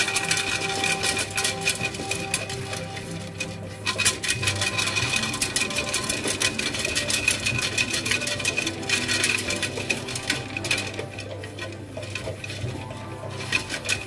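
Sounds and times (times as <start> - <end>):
bread maker motor hum: 0.0 - 14.0.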